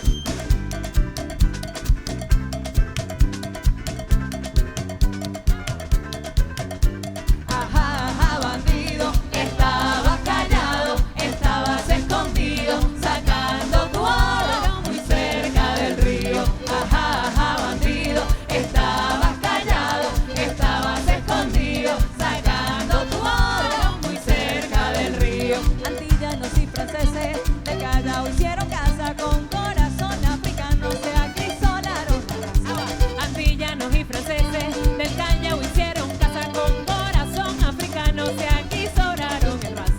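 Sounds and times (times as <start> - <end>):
latin band playing: 0.0 - 39.9
person singing: 7.5 - 39.9.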